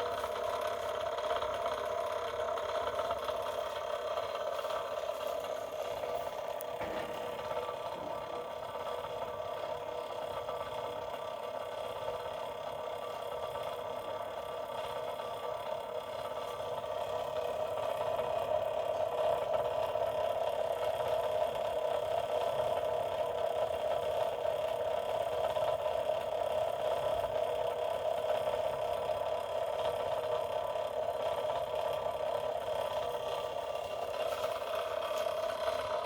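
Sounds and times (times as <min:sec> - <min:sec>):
small electric motor whirring: 0:00.0 - 0:36.0.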